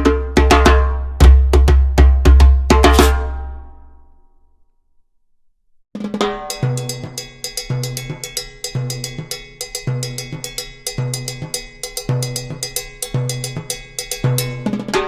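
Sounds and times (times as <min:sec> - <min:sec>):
music with drum beat and bass: 0:00.0 - 0:03.3, 0:06.0 - 0:15.0.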